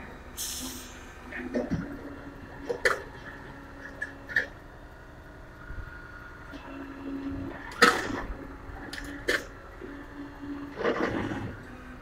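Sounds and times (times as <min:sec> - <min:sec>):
winch mechanical hum: 0:00.0 - 0:12.0.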